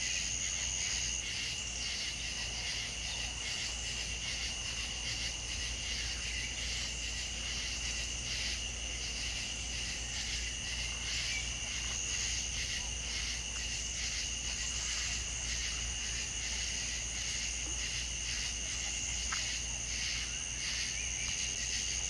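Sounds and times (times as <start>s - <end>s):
insects trilling: 0.0s - 22.0s
low steady hum: 0.0s - 22.0s.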